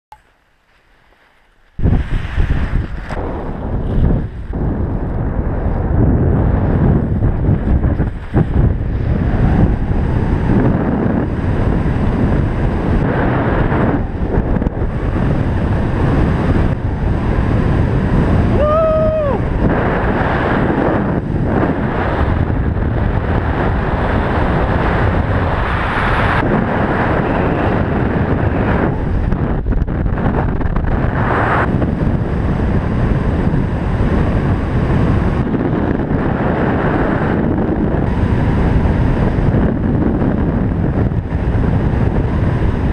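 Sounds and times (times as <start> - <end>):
wind noise on microphone: 0.1 - 42.9.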